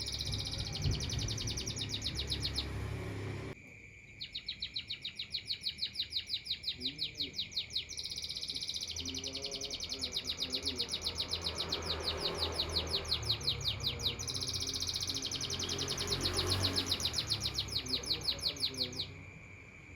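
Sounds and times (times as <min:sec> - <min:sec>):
songbird trilling: 0:00.0 - 0:03.0, 0:04.2 - 0:19.2.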